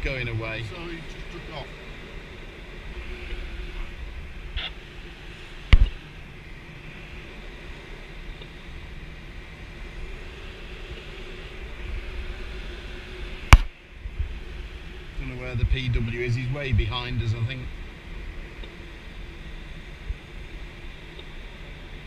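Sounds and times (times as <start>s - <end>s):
airflow rushing in cockpit: 0.0s - 22.0s.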